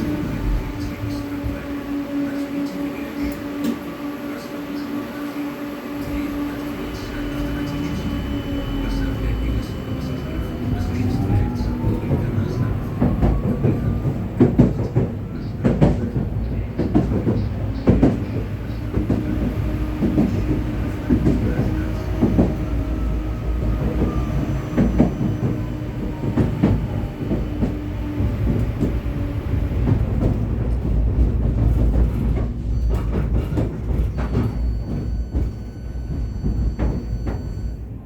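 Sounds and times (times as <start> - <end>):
tram wheels rumbling on rail: 0.0 - 38.0.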